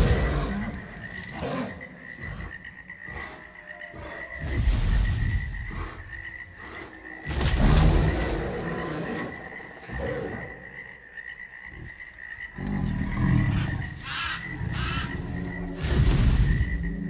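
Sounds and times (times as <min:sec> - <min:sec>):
deep croak-like creature call: 0:00.0 - 0:17.0
high insect drone: 0:00.0 - 0:17.0.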